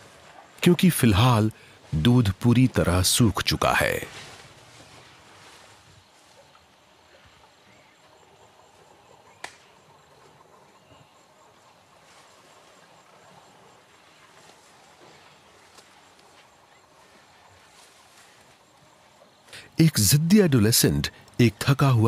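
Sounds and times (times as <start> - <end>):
insects chirring: 0.1 - 22.0.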